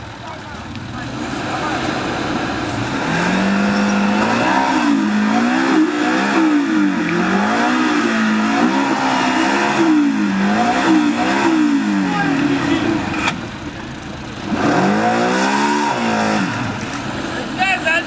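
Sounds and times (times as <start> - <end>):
atv engine revving: 0.0 - 17.6.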